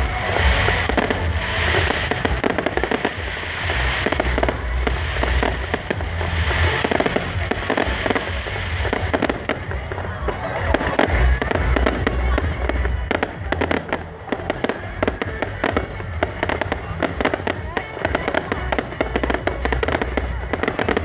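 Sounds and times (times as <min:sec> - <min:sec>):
fireworks crackling and popping: 0:00.0 - 0:21.0
heavy low rumble: 0:00.0 - 0:21.0.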